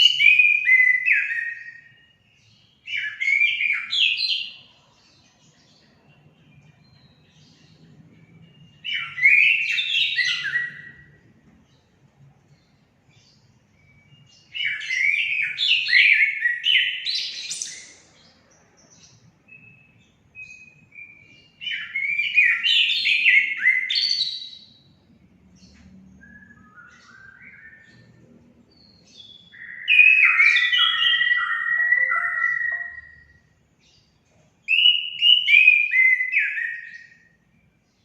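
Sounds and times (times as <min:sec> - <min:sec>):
thrush singing whistled notes: 0:00.0 - 0:04.8, 0:06.3 - 0:11.4, 0:13.3 - 0:18.3, 0:19.2 - 0:28.2, 0:28.8 - 0:33.6, 0:34.7 - 0:38.0.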